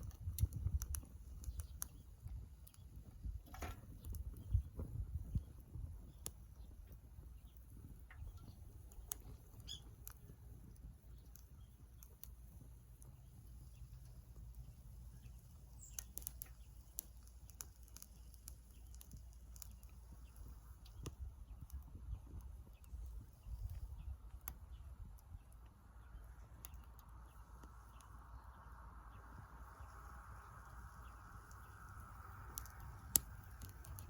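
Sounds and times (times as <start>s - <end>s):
burning wood crackling: 0.0s - 34.0s
low steady rumble: 0.0s - 34.0s.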